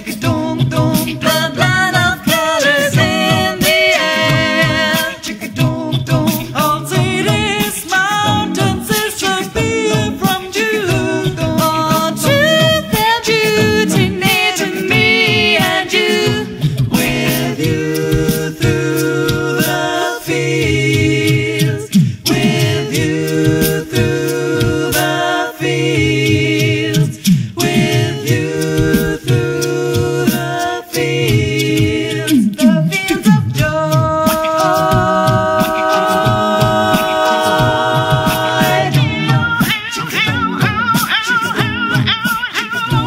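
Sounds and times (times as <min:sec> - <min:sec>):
voices singing in harmony: 0:00.0 - 0:43.0.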